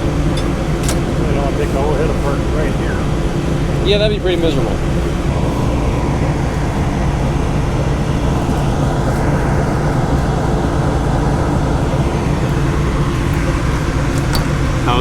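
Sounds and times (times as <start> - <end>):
combine engine humming: 0.0 - 15.0.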